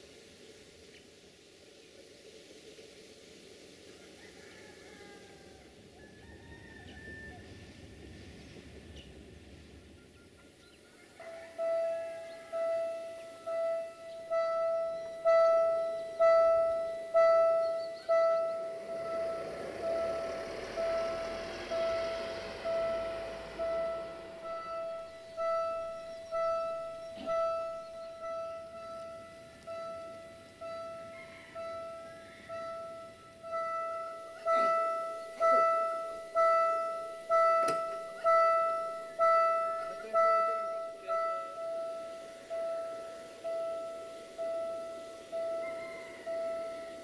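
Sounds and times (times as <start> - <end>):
level crossing warning bell: 9.4 - 47.0.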